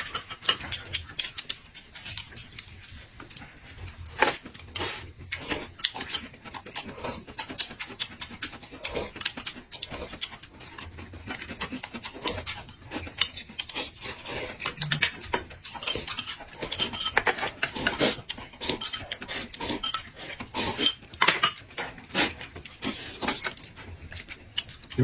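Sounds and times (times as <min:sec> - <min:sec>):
person crunching and chewing: 0:00.0 - 0:25.0.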